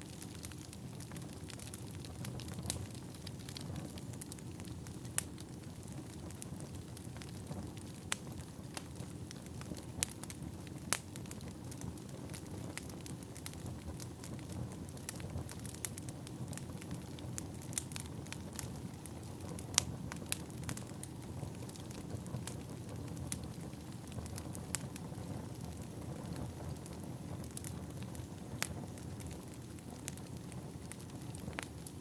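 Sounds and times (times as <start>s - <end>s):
firewood crackling and popping: 0.0s - 32.0s.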